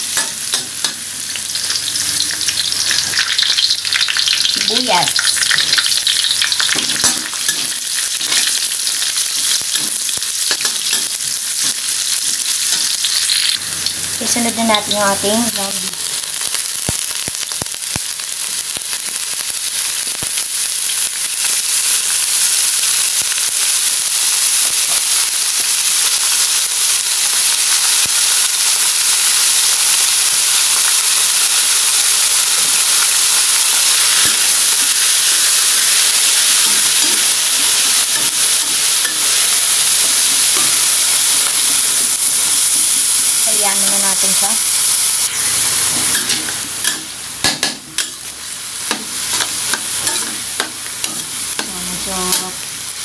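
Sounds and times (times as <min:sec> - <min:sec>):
meat sizzling in a wok: 0:00.0 - 0:53.0.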